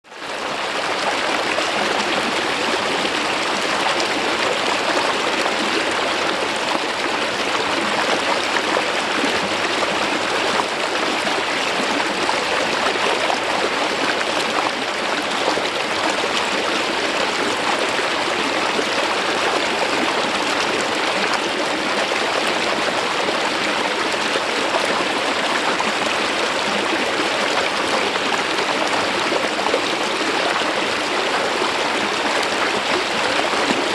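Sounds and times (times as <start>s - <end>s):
stream water flowing over rock: 0.1s - 33.9s.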